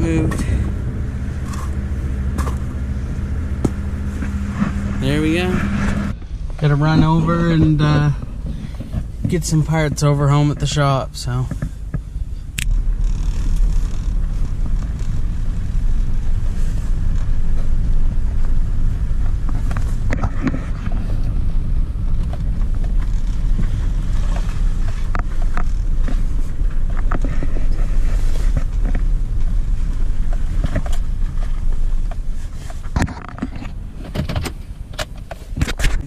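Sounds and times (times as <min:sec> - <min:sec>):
engine and road rumble: 0:00.0 - 0:36.0.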